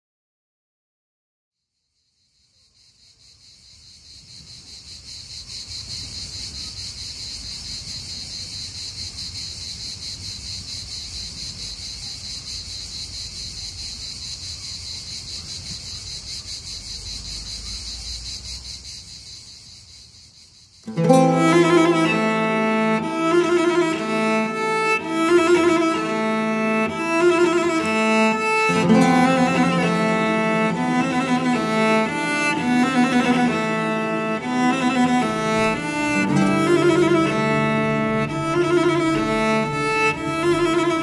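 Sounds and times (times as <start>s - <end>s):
insects chirring: 1.6s - 41.0s.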